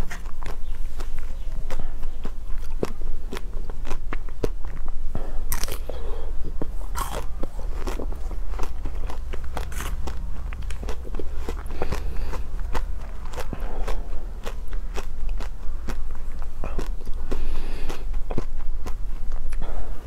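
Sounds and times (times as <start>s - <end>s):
chocolate bar crunching: 0.0s - 20.0s.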